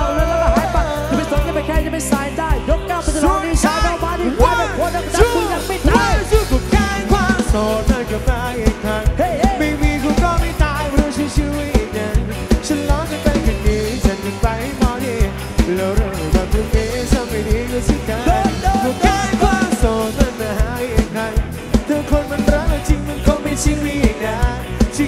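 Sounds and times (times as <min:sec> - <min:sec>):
fast drum beat: 0:00.0 - 0:25.0
live band music: 0:00.0 - 0:25.0
man singing into a microphone: 0:00.0 - 0:25.0.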